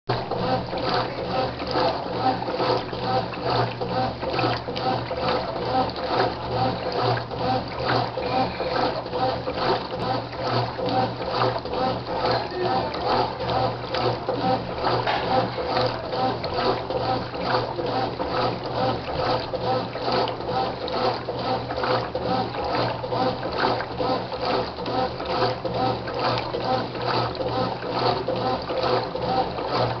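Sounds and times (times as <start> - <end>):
motor hum: 0.1 - 30.0
water sloshing in washing machine: 0.1 - 30.0.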